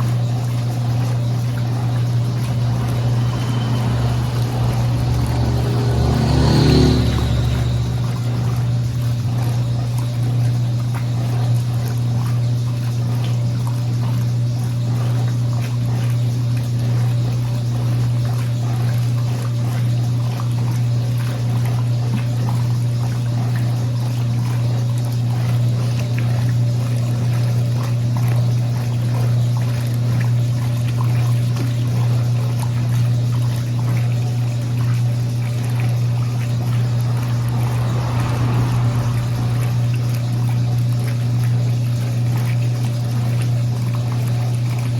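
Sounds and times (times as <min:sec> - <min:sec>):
washing machine motor hum: 0:00.0 - 0:44.9
water sloshing in tub: 0:00.0 - 0:44.9.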